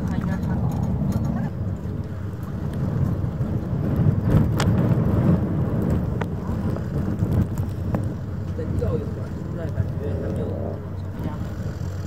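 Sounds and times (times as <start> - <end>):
low harbourside rumble: 0.0 - 12.0.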